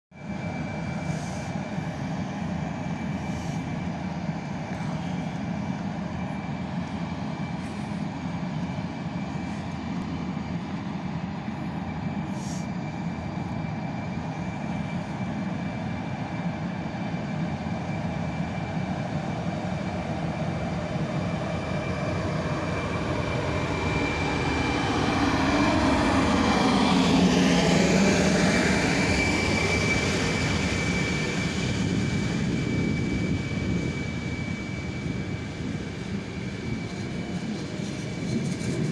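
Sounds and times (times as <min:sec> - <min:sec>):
train rumble: 0:00.2 - 0:38.9.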